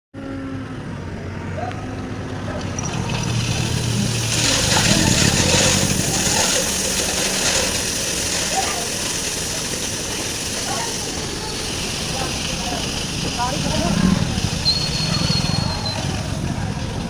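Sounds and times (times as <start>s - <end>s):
truck engine running: 0.2s - 17.0s
loud rushing noise: 0.7s - 17.0s.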